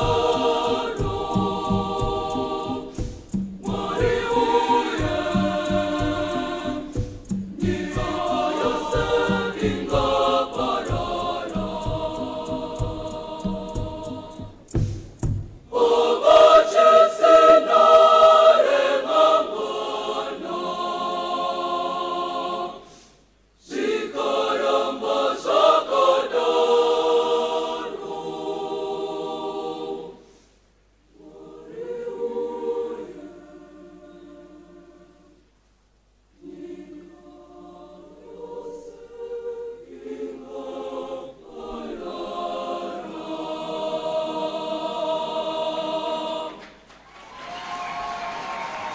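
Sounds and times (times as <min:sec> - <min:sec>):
girls' choir singing in harmony: 0:00.0 - 0:30.4, 0:31.0 - 0:35.5, 0:36.4 - 0:48.9.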